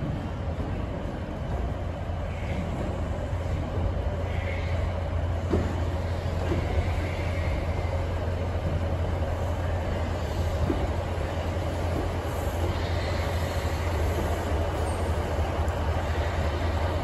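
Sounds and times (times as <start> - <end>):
diesel train rumble: 0.0 - 17.0.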